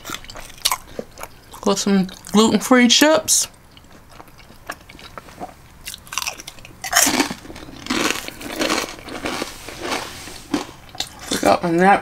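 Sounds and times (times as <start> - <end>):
chips crunching while chewed: 0.0 - 2.4, 3.5 - 11.6.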